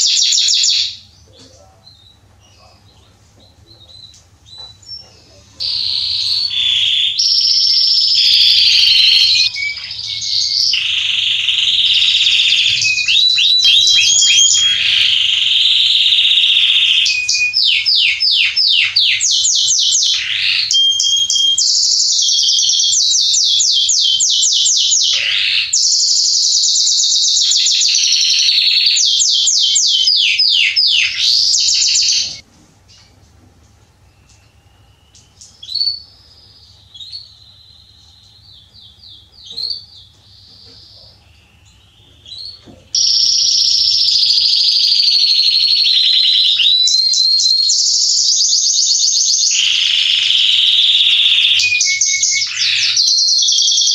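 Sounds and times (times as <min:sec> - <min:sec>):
canary singing trills: 0:00.0 - 0:33.2, 0:33.9 - 0:53.9.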